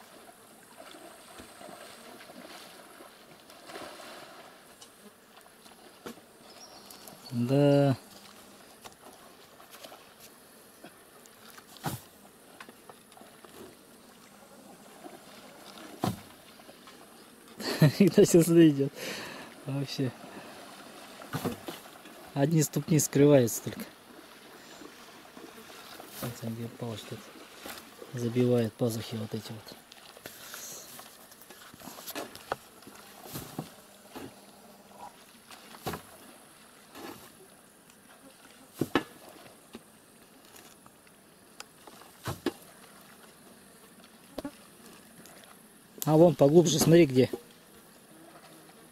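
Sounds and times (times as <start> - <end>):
water sloshing and splashing: 0.0 - 48.9.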